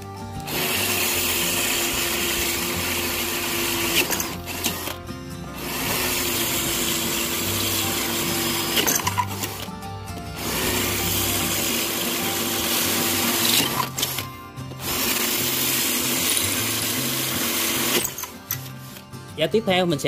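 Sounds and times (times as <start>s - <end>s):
cordless drill drilling into brick: 0.0s - 9.8s, 10.4s - 19.0s.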